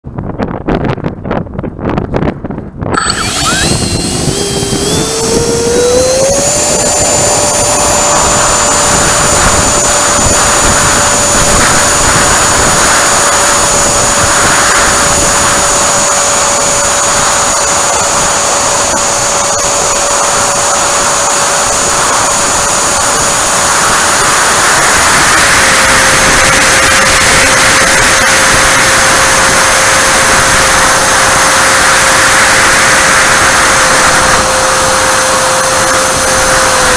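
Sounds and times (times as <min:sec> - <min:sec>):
electric ducted fan whine: 0:00.1 - 0:36.9
rushing air: 0:02.8 - 0:36.9.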